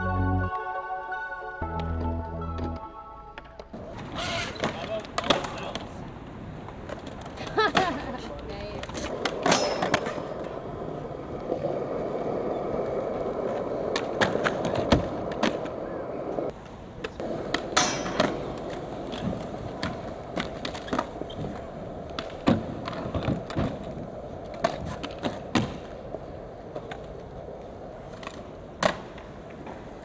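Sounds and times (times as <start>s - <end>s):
skateboard wheels rolling on concrete: 1.7s - 30.0s
skateboards clacking: 2.6s - 30.0s.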